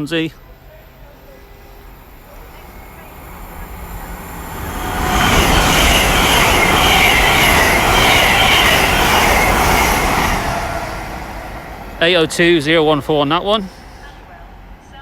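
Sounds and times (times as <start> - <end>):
express train passing at speed: 0.0 - 15.0.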